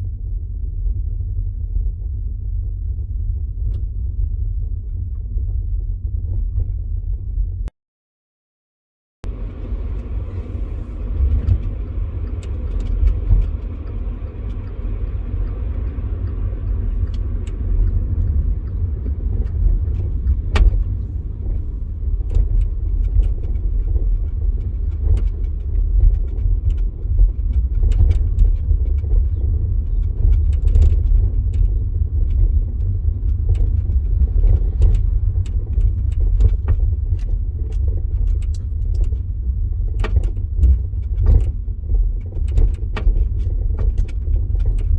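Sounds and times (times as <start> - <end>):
low road rumble: 0.0 - 7.7, 9.2 - 44.9.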